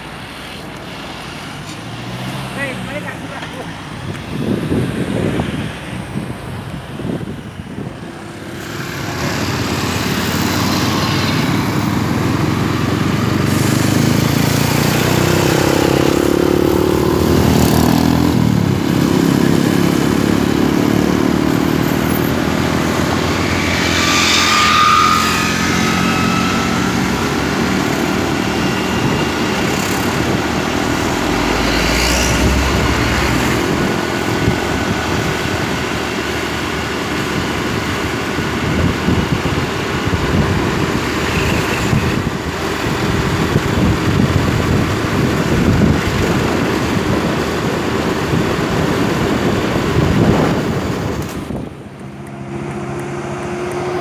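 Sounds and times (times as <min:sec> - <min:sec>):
road vehicles passing: 0:00.0 - 0:54.0.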